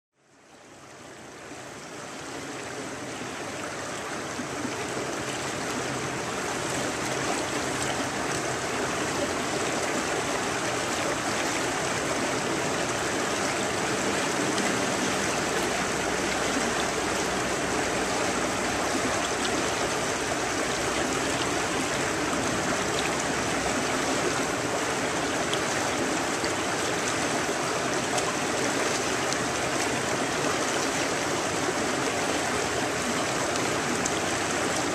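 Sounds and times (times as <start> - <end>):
shallow river flowing: 0.2 - 34.9.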